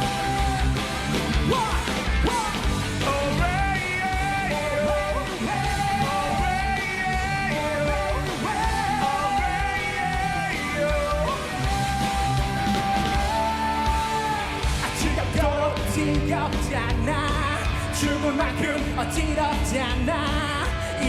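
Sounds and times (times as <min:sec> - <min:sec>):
bass: 0:00.0 - 0:21.0
drums: 0:00.0 - 0:21.0.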